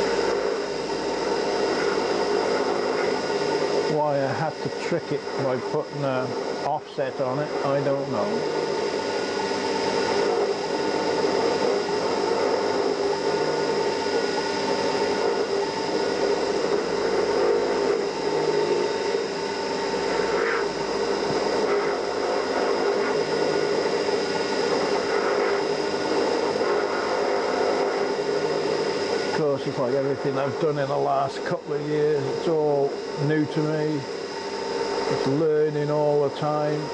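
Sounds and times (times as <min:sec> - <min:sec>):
milling machine running: 0:00.0 - 0:36.9.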